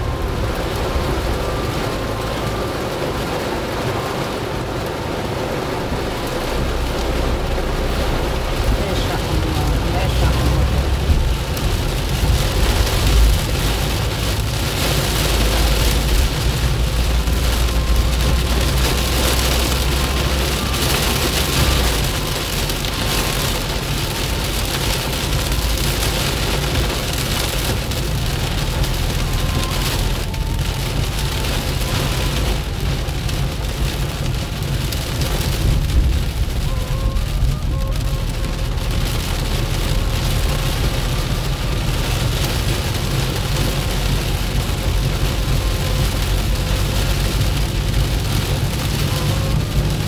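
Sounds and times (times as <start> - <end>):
heavy rain drumming on car roof: 0.0 - 50.0
low road rumble: 0.0 - 50.0.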